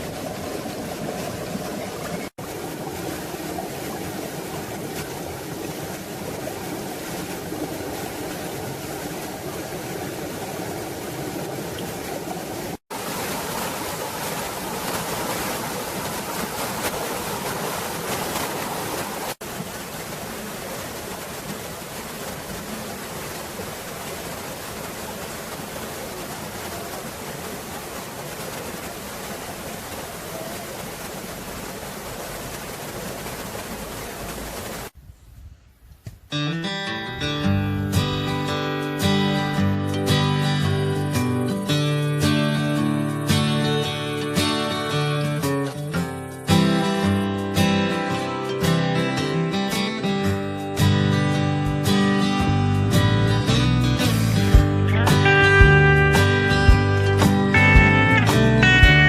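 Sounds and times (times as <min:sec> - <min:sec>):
stream rushing: 0:00.0 - 0:35.0, 0:36.6 - 0:59.0.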